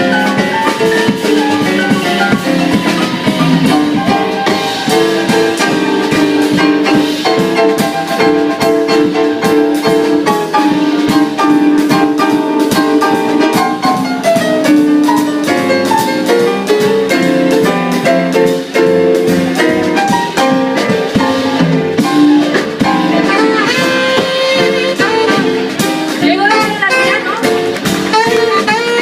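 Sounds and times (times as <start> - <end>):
drums keeping a steady beat: 0.0 - 29.0
jazz swing band playing: 0.0 - 29.0.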